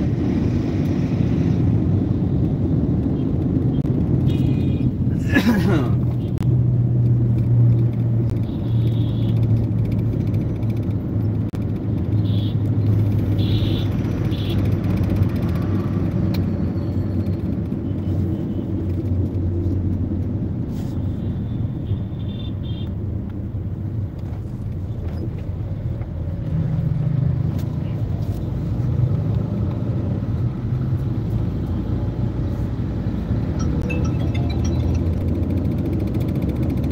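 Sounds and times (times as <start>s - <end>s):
car engine hum and road rumble: 0.0s - 36.9s.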